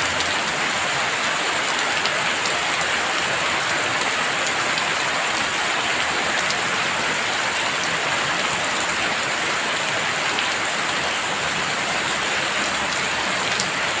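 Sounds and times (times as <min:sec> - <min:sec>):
heavy rain patter: 0:00.0 - 0:14.0.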